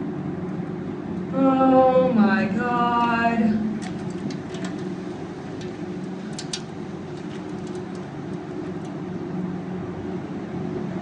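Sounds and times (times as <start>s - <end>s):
muffled rumble of tornado winds: 0.0s - 11.0s.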